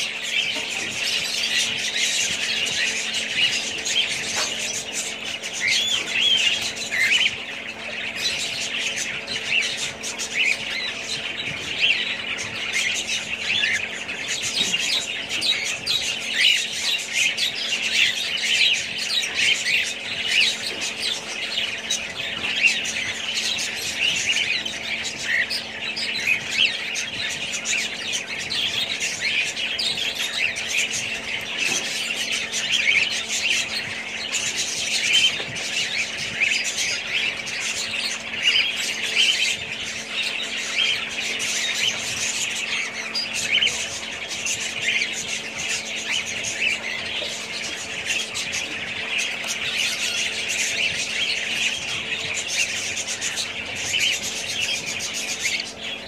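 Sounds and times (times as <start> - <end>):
parrots chirping and squawking: 0.0 - 56.0.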